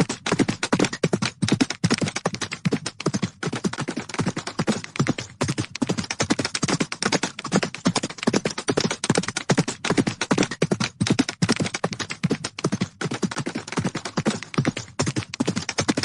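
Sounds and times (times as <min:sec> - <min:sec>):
galloping horse hooves: 0:00.0 - 0:16.0.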